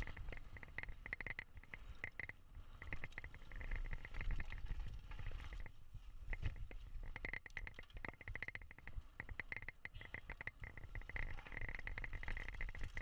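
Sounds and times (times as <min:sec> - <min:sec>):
bike clicks and rattles: 0:00.0 - 0:13.0
rear hub ticking: 0:00.0 - 0:13.0.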